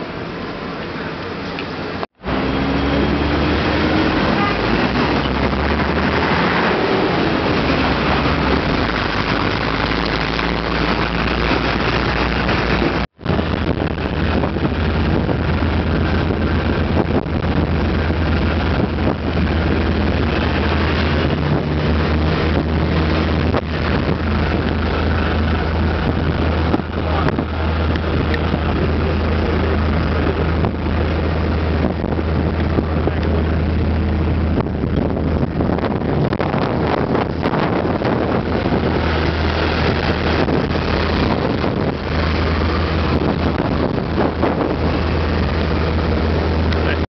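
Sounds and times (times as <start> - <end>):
bus and car engines: 0.0 - 47.0
bus engine rumble: 0.0 - 47.0
road noise: 0.0 - 47.0.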